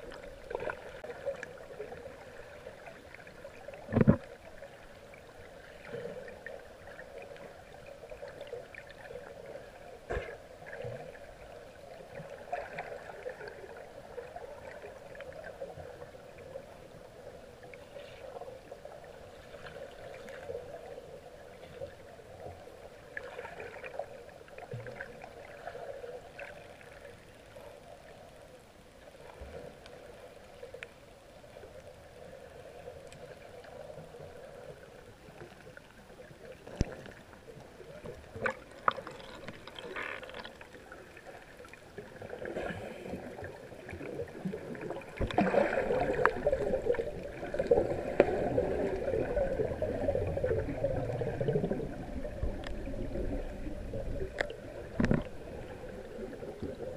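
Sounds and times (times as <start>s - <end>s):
muffled underwater wash: 0.0s - 56.9s
water churning and gurgling: 0.0s - 56.9s.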